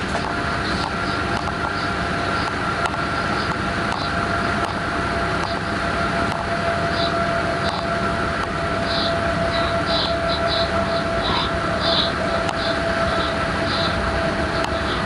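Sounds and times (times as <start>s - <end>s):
high whine: 0.0s - 15.0s
locomotive rolling rumble: 0.0s - 15.0s.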